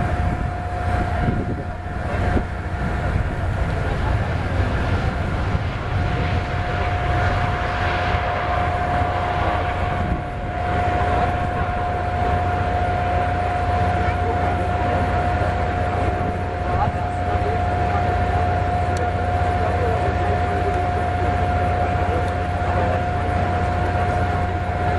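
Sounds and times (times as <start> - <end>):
aircraft engine whine: 0.0 - 24.9.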